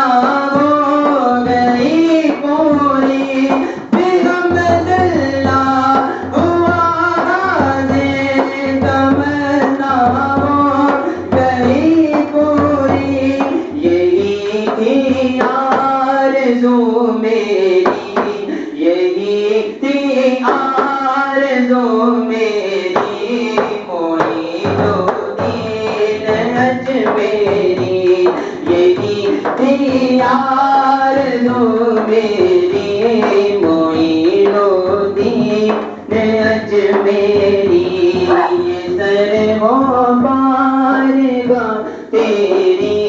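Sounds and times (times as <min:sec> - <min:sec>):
steady percussive beat: 0:00.0 - 0:16.4, 0:22.9 - 0:43.0
man singing devotional song: 0:00.0 - 0:43.0.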